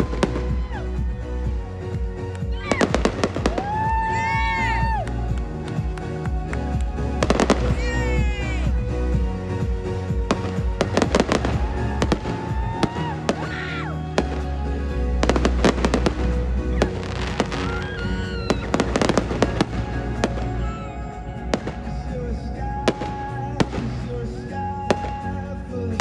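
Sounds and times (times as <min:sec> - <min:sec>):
fireworks bangs and crackles: 0:00.0 - 0:26.0
music with heavy bass: 0:00.0 - 0:26.0.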